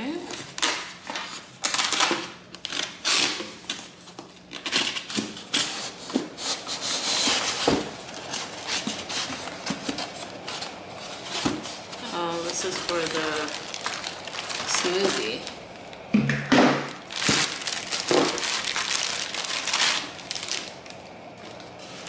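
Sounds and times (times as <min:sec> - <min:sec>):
plastic wrapping rustling: 0:00.1 - 0:16.1, 0:16.8 - 0:22.0.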